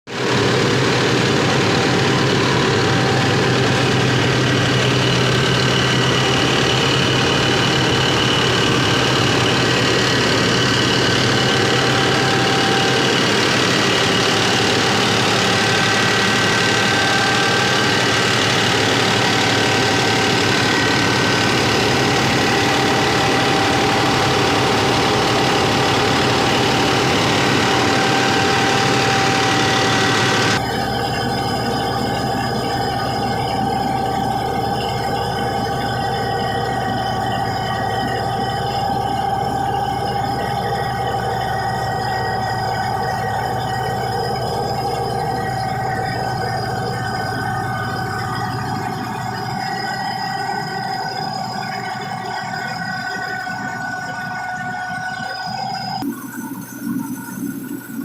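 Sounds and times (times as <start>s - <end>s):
tractor diesel engine running: 0.0s - 56.1s
rice mill machinery whining: 0.0s - 56.2s.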